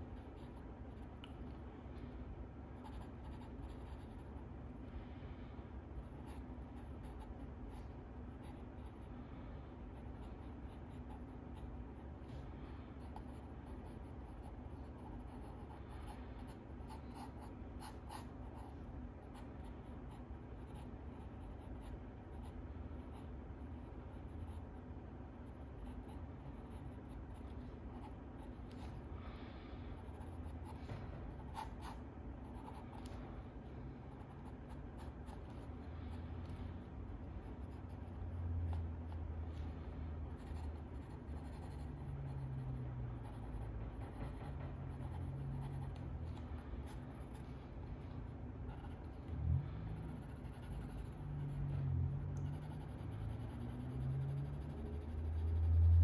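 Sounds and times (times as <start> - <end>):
pencil scratching on paper: 0.0 - 1.1, 2.8 - 4.5, 6.1 - 9.2, 9.9 - 12.4, 13.0 - 29.0, 30.0 - 56.0
low steady hum: 0.0 - 56.0.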